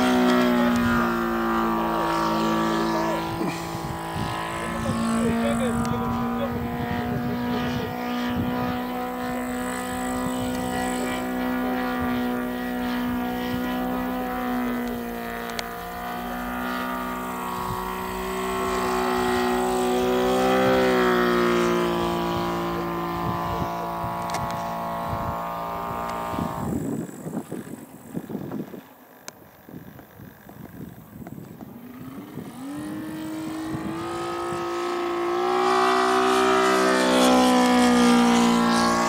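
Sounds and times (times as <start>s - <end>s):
model airplane engine drone: 0.0s - 39.0s.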